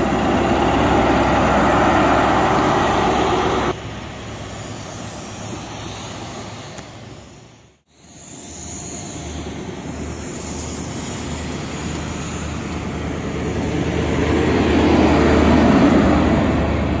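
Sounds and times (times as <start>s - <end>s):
low diesel engine tone: 0.0s - 17.0s
train coaches rolling by: 0.0s - 17.0s.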